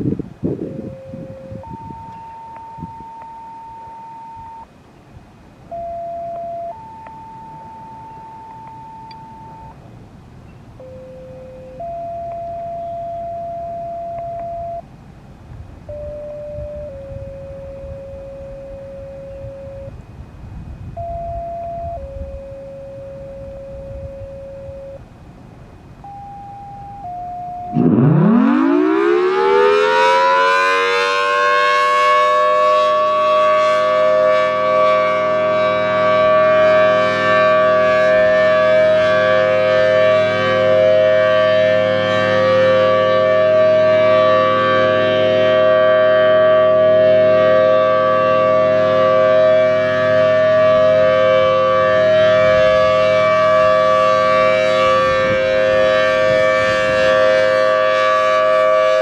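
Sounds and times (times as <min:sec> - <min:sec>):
outdoor warning siren two-note chord: 0:00.5 - 0:04.7, 0:05.7 - 0:09.8, 0:10.5 - 0:15.0, 0:15.8 - 0:25.1, 0:26.0 - 0:59.0.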